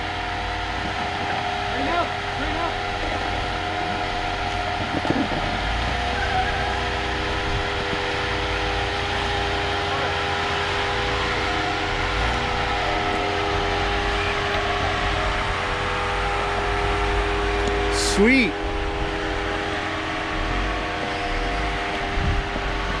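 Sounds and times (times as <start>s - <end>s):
vehicle engine running at low speed: 0.0s - 23.0s.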